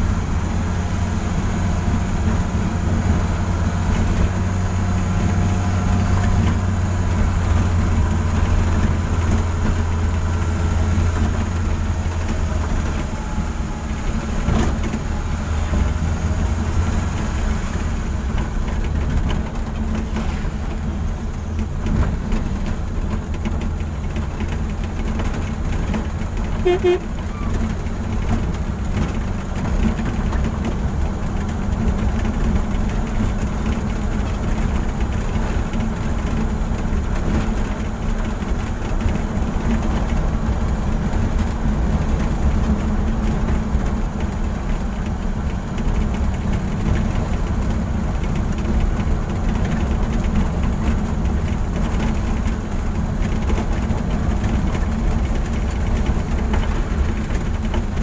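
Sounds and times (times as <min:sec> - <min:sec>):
car engine and tyre drone: 0:00.0 - 0:58.0.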